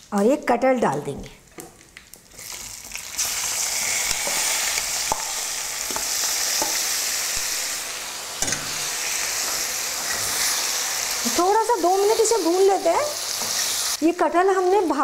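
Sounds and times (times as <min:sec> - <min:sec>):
oil sizzling: 0:01.4 - 0:15.0.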